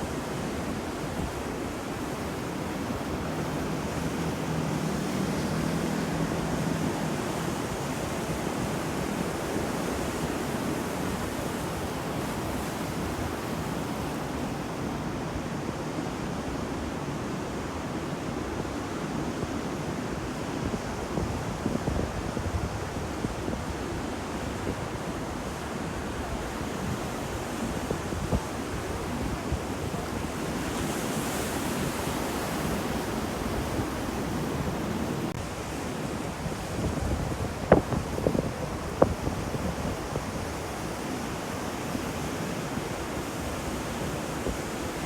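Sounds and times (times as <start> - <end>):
sea surf washing on shore: 0.0 - 45.0.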